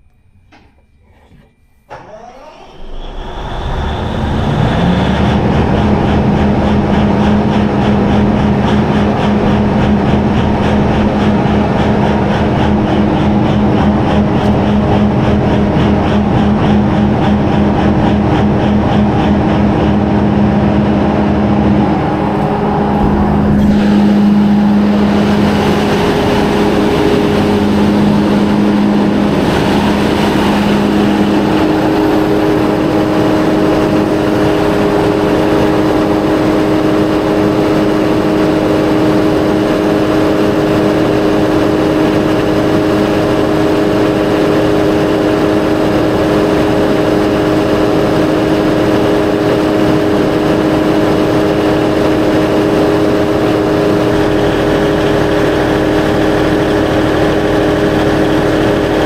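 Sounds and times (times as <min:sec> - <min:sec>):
diesel generator humming: 0:00.0 - 0:59.0.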